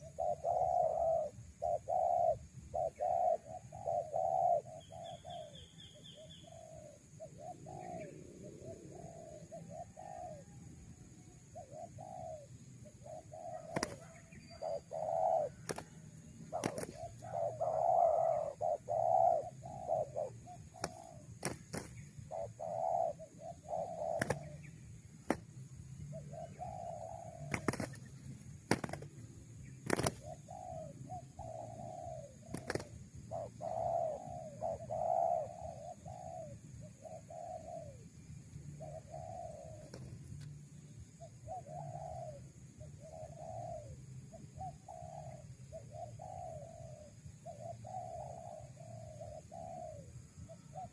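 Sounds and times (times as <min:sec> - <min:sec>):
doves cooing: 0:00.0 - 0:40.5, 0:41.1 - 0:50.9.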